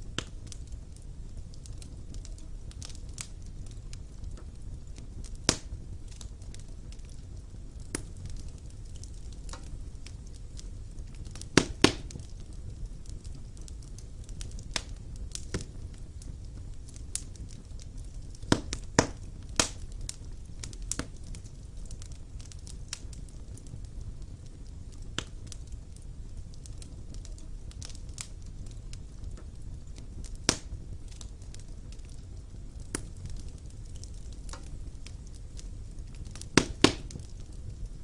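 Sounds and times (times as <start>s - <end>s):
fire crackling with pops: 0.0s - 38.0s
low steady rumble: 0.0s - 38.0s.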